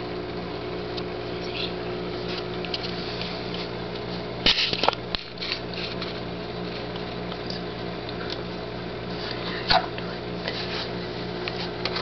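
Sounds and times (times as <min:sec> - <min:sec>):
low hum of small motor: 0:00.0 - 0:12.0.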